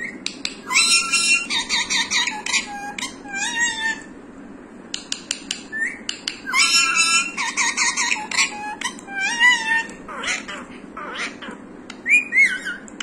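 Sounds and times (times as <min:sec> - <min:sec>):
parakeet calling: 0:00.0 - 0:04.1, 0:05.7 - 0:13.0.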